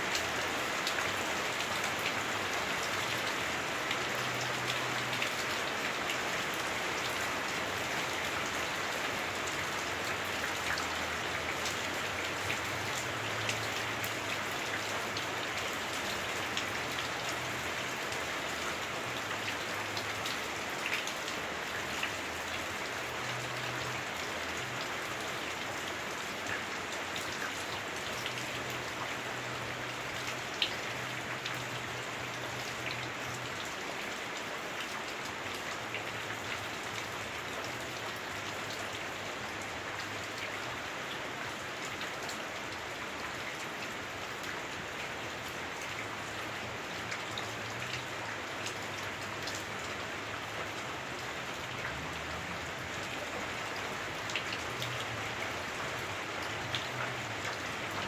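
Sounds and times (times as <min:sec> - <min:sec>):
heavy rain drumming on roof: 0:00.0 - 0:58.0.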